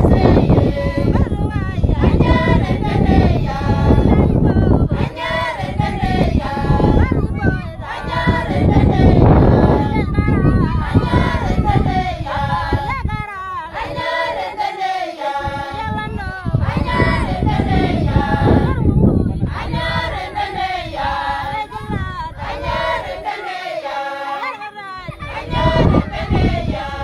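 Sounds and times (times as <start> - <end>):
women singing unaccompanied: 0.0 - 27.0.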